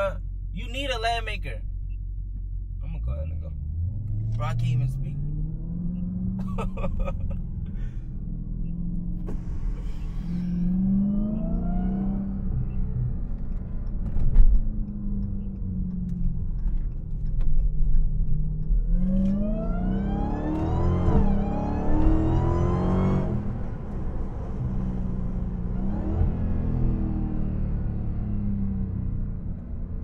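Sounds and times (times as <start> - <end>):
supercharger whine: 1.6 - 30.0
car engine accelerating: 1.7 - 30.0.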